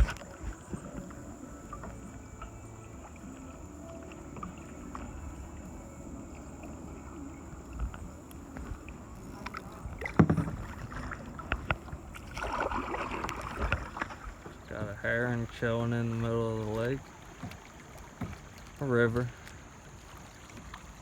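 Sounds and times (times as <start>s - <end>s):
paddle strokes in water: 0.0s - 21.0s
water splashing: 0.0s - 21.0s.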